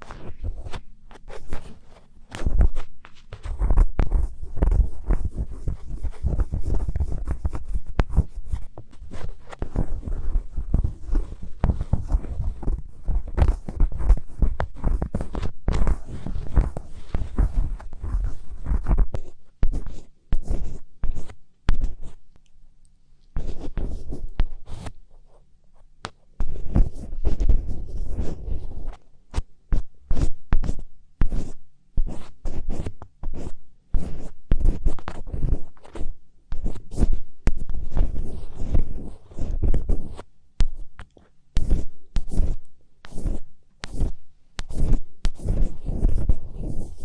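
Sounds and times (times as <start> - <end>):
close scratching on microphone: 0.0 - 22.2, 23.3 - 47.0.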